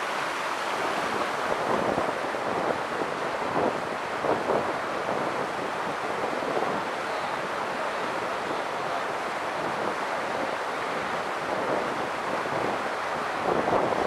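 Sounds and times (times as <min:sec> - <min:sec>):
floodwater rushing: 0:00.0 - 0:13.3.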